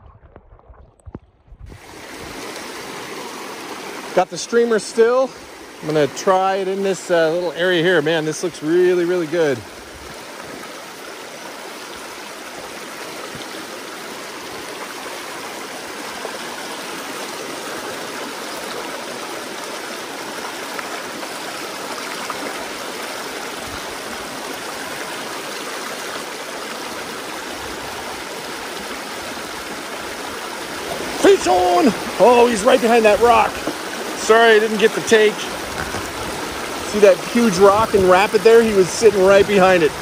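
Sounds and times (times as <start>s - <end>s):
stream rushing over rocks: 1.7s - 40.0s.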